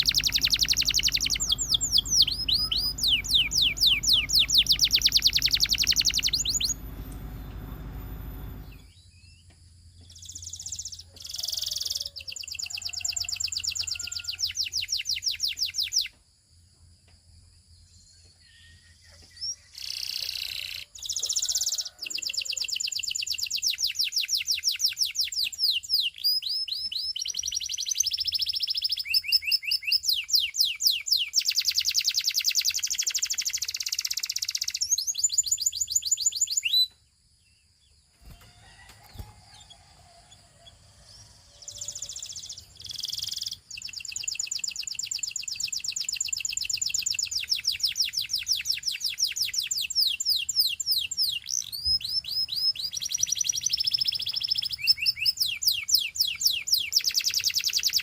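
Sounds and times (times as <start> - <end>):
canary singing trills: 0.0 - 9.4, 18.4 - 37.0, 38.2 - 58.0.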